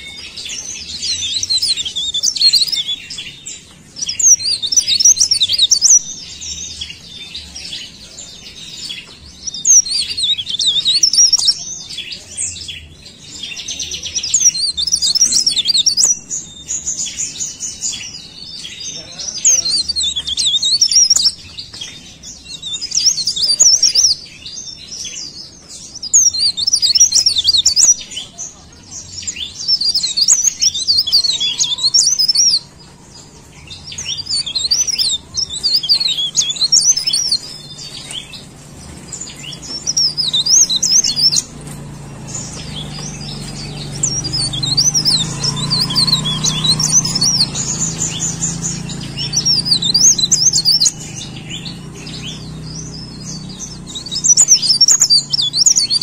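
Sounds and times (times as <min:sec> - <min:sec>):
warbler twittering song: 0:00.0 - 0:56.0.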